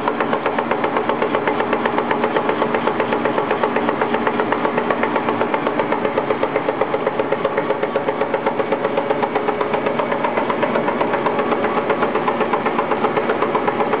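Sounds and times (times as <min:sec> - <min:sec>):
machine running with rapid beat: 0:00.0 - 0:14.0.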